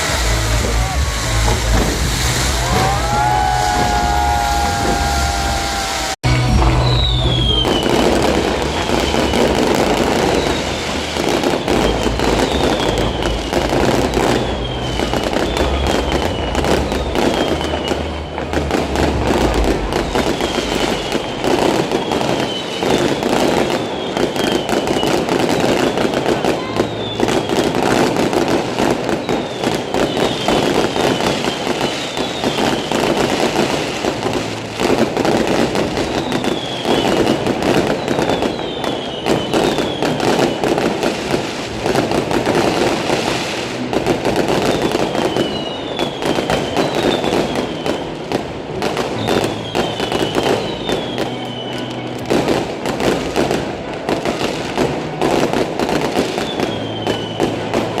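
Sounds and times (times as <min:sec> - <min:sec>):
falling firework whistles: 0:00.0 - 0:58.0
fireworks crackling and popping: 0:00.0 - 0:58.0.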